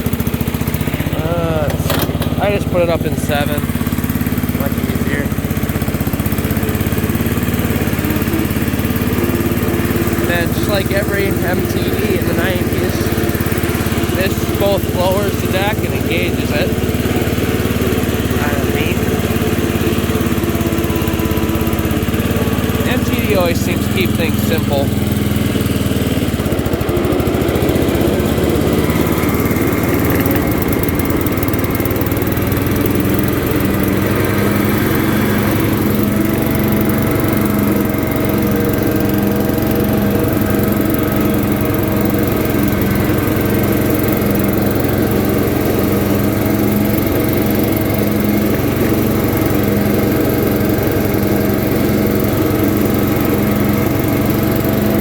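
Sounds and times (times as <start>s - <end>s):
riding lawn mower running: 0.0s - 55.0s.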